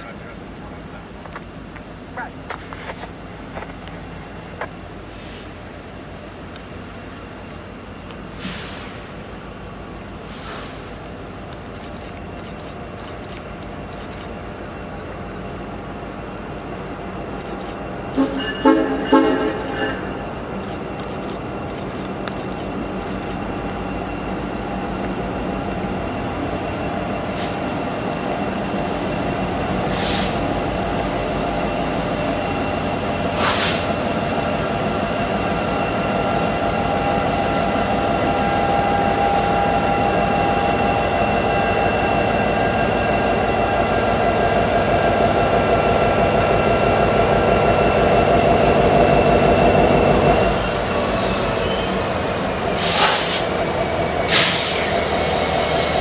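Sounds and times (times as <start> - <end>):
rumble of freight cars: 0.0 - 56.0
train wheels squealing: 7.1 - 56.0.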